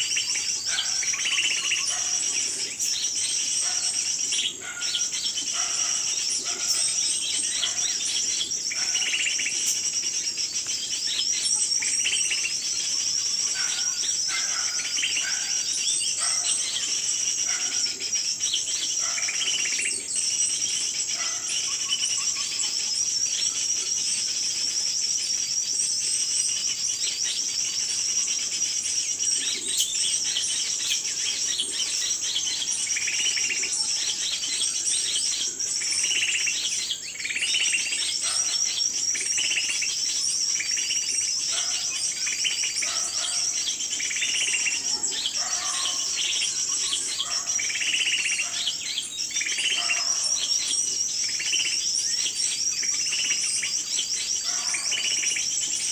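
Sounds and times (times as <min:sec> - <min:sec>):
lower bird calls: 0:00.0 - 0:55.9
small birds chirping: 0:00.0 - 0:55.9.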